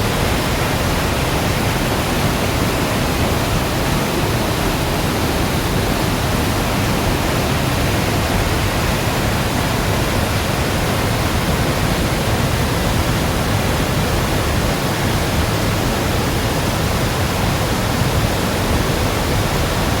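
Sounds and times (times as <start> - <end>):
river floodwater rushing: 0.0 - 20.0.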